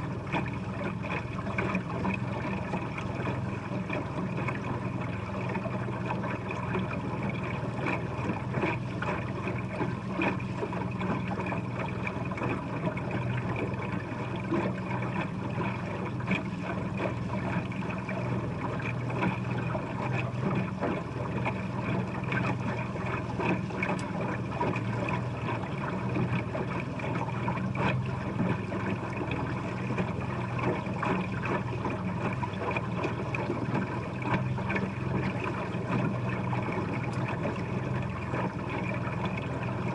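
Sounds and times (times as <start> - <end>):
boat motor humming: 0.0 - 39.9
rushing wash of water: 0.0 - 39.9.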